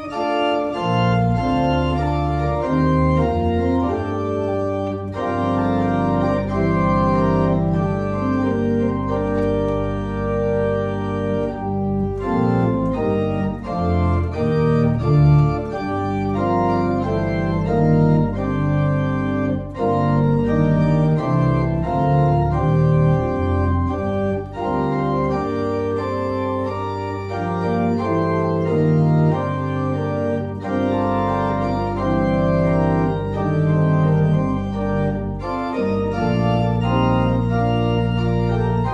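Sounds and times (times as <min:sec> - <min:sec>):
church organ chords: 0:00.0 - 0:38.9.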